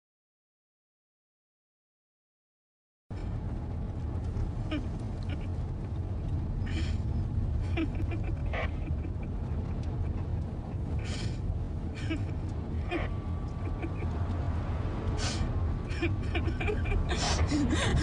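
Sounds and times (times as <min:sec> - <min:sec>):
taxi engine rumble from inside: 0:03.1 - 0:18.0.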